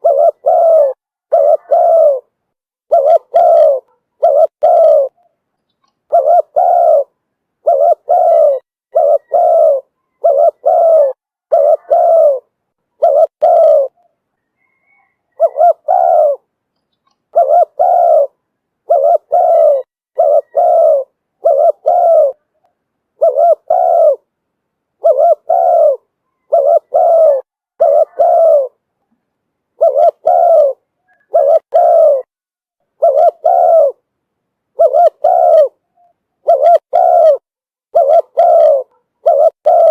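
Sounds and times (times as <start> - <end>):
dove cooing: 0.0 - 24.3, 25.0 - 28.8, 29.8 - 32.3, 33.0 - 34.0, 34.7 - 39.9.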